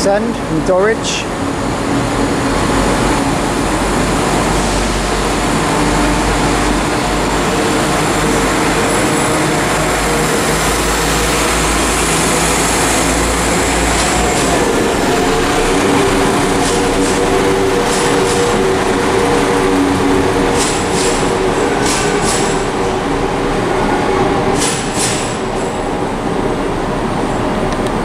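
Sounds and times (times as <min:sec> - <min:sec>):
diesel train engines rumbling: 0:00.0 - 0:28.0.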